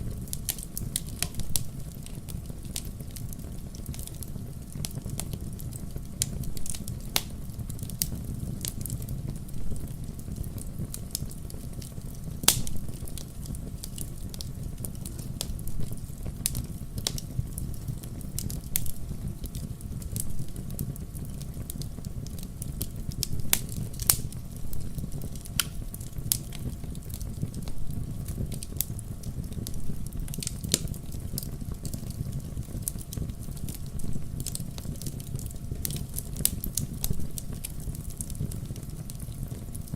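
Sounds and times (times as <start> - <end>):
fire rumbling in fireplace: 0.0 - 39.9
wood crackling and popping: 0.0 - 39.9.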